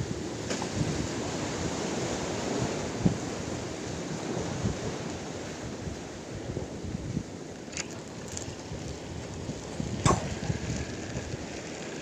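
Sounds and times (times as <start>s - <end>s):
wind buffeting microphone: 0.0s - 12.0s
waves washing against concrete: 0.3s - 12.0s.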